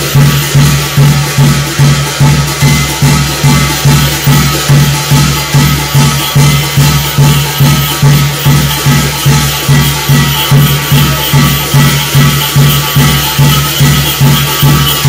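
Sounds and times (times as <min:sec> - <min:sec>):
drum beaten in steady pulse: 0:00.0 - 0:15.0
high jingling percussion: 0:00.0 - 0:15.0.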